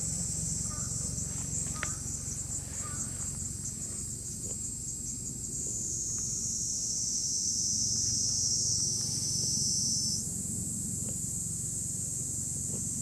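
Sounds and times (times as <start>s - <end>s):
high-pitched insect chorus: 0.0s - 13.0s
low background rumble: 0.0s - 13.0s.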